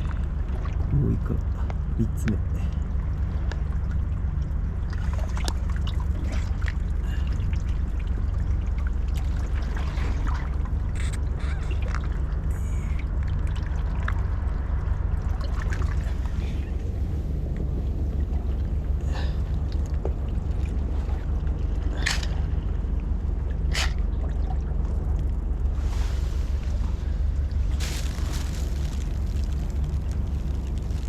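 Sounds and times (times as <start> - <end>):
steady low rumble: 0.0 - 31.0
water trickling and splashing: 0.0 - 31.0.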